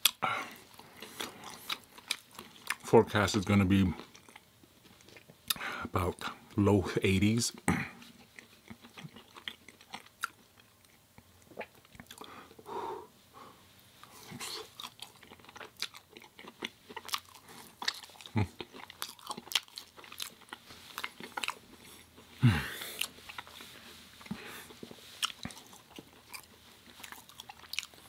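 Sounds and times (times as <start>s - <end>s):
chewing and biting food: 0.0s - 2.9s, 3.9s - 5.6s, 8.0s - 12.7s, 14.0s - 28.0s.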